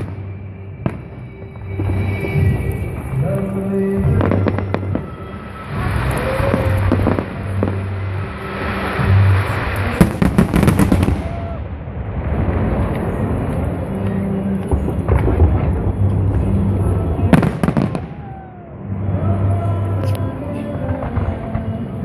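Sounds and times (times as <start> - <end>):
crackling bangs: 0.0 - 18.5
fireworks bursting: 0.0 - 22.0.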